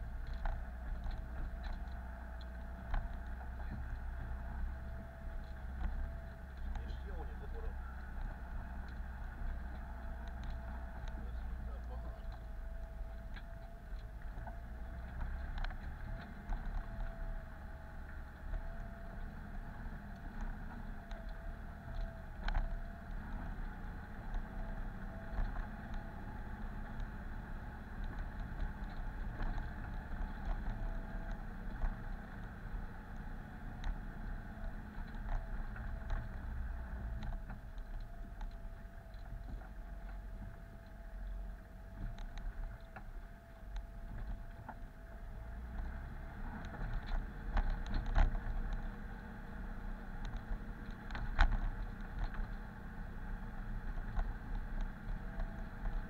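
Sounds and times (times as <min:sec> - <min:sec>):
low engine rumble: 0:00.0 - 0:56.0
steady whine: 0:00.0 - 0:56.0.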